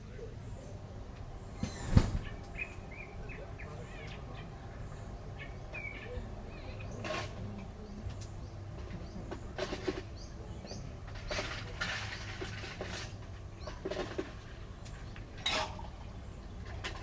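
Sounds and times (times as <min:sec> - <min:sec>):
low background rumble: 0:02.3 - 0:17.0.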